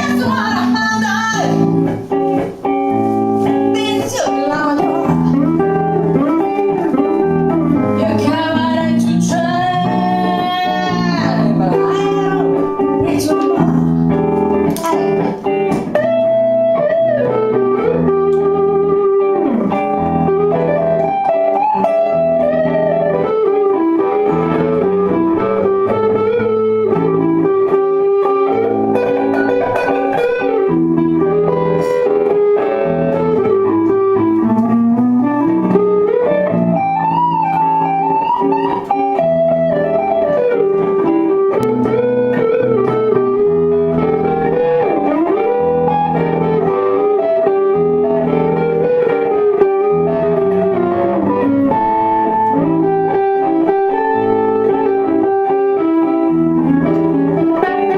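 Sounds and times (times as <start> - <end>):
live guitar music: 0.0 - 57.9.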